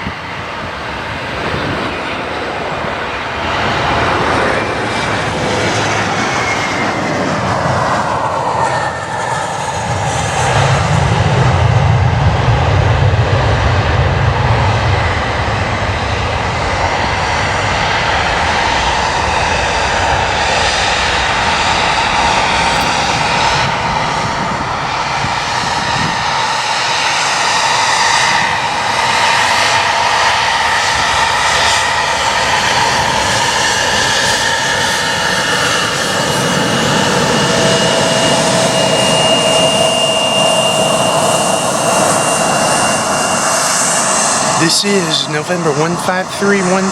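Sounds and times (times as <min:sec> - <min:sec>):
jet engines roaring: 0:00.0 - 0:46.9.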